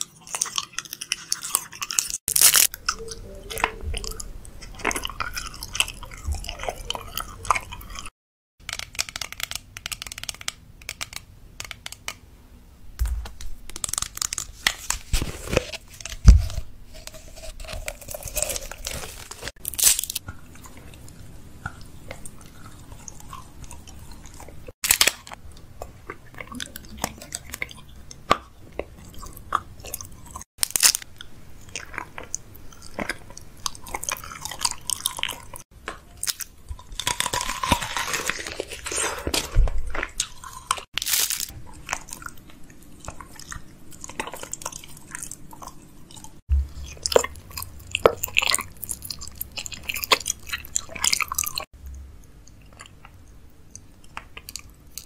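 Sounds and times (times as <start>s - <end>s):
chewing crisp food: 0.0s - 8.1s, 15.5s - 55.0s.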